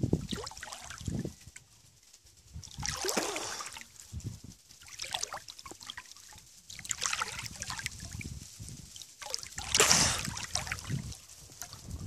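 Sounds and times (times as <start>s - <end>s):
water sloshing and splashing: 0.2s - 1.4s, 2.6s - 4.2s, 4.8s - 12.0s.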